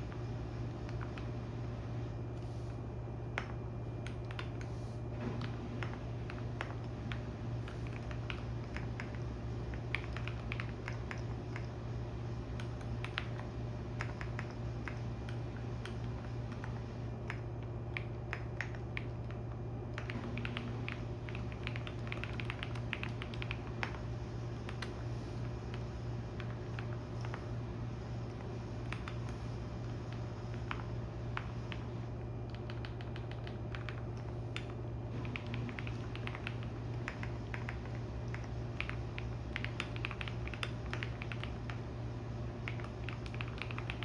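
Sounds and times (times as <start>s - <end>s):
computer keyboard typing: 0.0s - 1.6s, 3.3s - 44.0s
washing machine humming: 0.0s - 44.0s.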